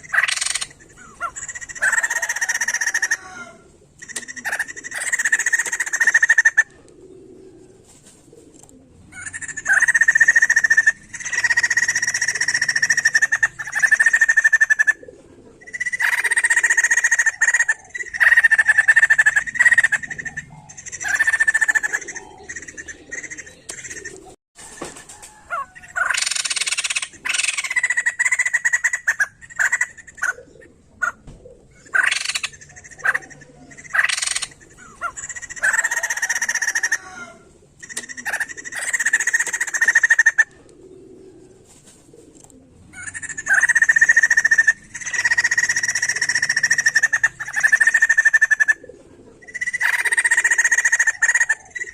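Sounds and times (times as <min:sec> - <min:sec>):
laughingthrush chattering call: 0:00.0 - 0:06.7, 0:09.2 - 0:15.0, 0:15.6 - 0:24.4, 0:25.5 - 0:31.2, 0:31.8 - 0:40.6, 0:42.9 - 0:51.9.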